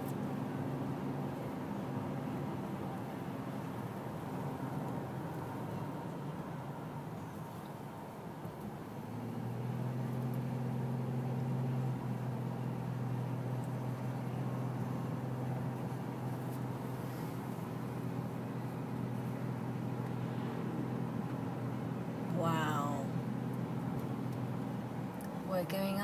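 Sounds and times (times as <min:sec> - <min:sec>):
car engine and tyre drone: 0:00.0 - 0:25.5.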